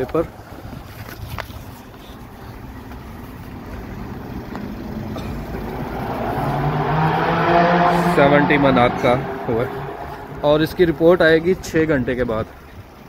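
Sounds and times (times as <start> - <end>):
approaching vehicle engine hum: 0.0 - 13.0.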